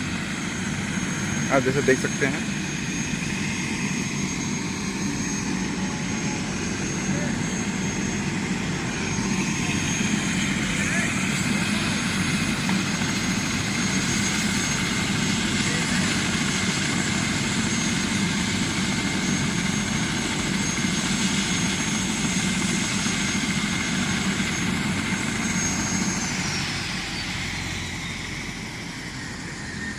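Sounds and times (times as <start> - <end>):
helicopter rotor and engine: 0.0 - 29.9
high turbine whine: 0.0 - 29.9.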